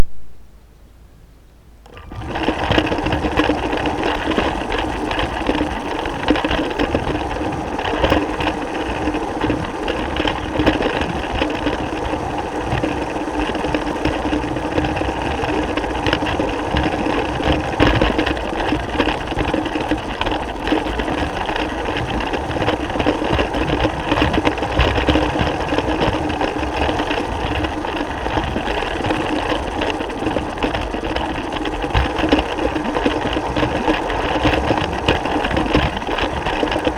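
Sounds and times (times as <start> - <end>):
toy train motor whirring: 1.8 - 36.8.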